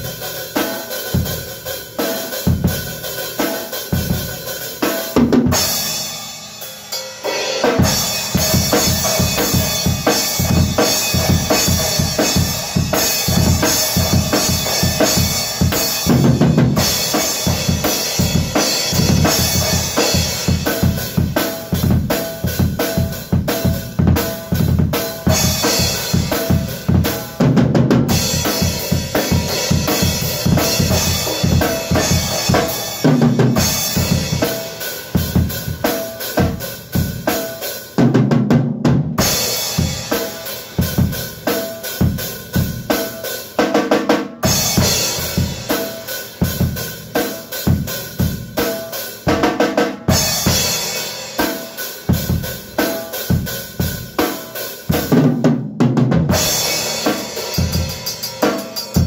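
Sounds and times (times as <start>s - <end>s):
drum kit fast beat: 0.0s - 59.0s.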